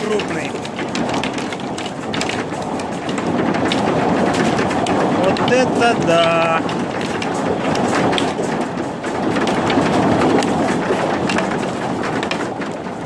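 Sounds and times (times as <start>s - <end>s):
hailstones pelting down: 0.0s - 13.0s.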